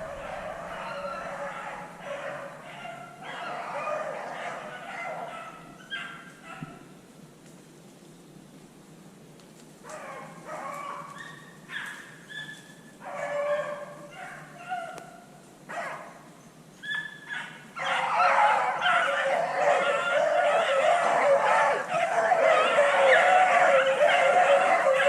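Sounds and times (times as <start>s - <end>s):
pack of dogs baying: 0.0s - 6.8s, 9.9s - 15.1s, 16.9s - 25.0s.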